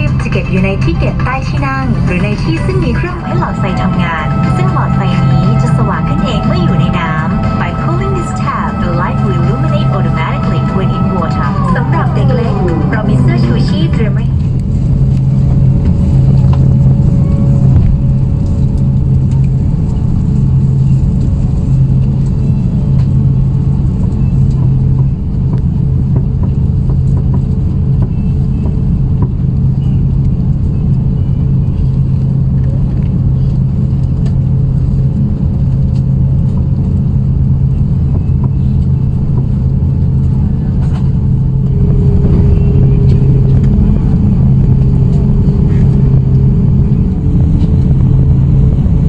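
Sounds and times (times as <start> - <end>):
aircraft cabin engine drone: 0.0 - 49.0
faint steady whine: 0.0 - 49.0.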